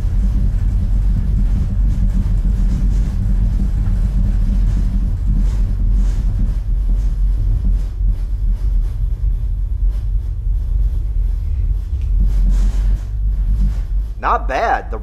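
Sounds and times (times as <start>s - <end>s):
deep subwoofer bass: 0.0s - 15.0s.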